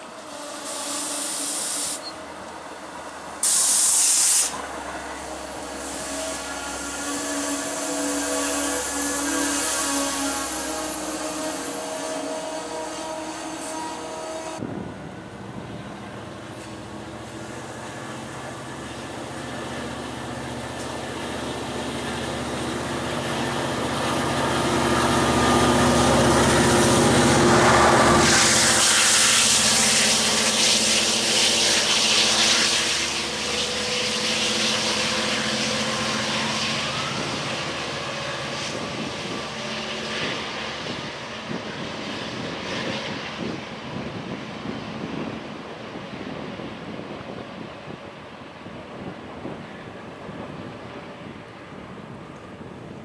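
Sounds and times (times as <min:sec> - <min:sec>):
diesel locomotive exhaust rush: 0:00.0 - 0:53.0
train coaches passing: 0:00.0 - 0:53.0
diesel engine drone: 0:04.4 - 0:53.0.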